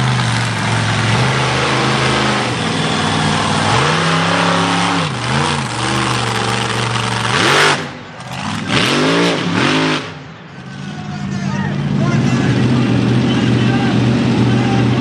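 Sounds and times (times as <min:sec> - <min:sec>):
truck engine revving hard: 0:00.0 - 0:10.3, 0:11.8 - 0:15.0.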